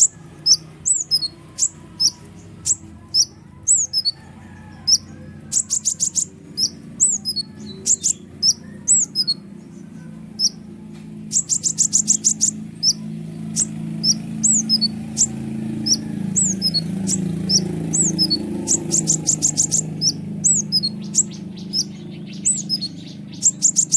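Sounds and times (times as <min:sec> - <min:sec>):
bird singing fast high trills: 0:00.0 - 0:23.9.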